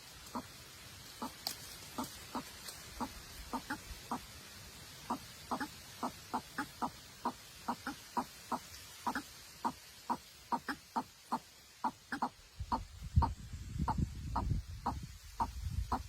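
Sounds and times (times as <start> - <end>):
bird clucking calls: 0.0 - 0.6, 1.2 - 4.3, 5.0 - 16.0.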